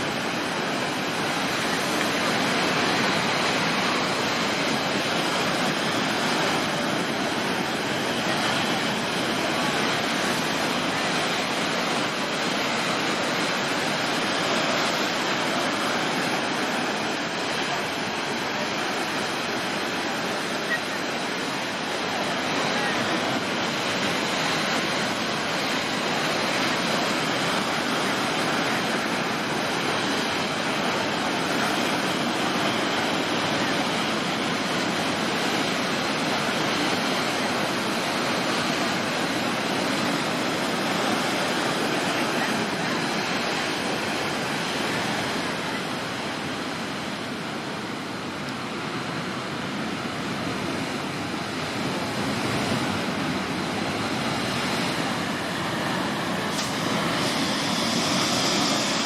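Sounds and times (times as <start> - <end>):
storm waves breaking on shore: 0.0 - 59.0.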